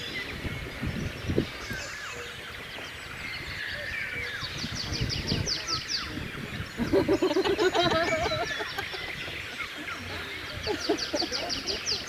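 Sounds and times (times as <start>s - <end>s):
songbirds chorus: 0.0s - 12.0s.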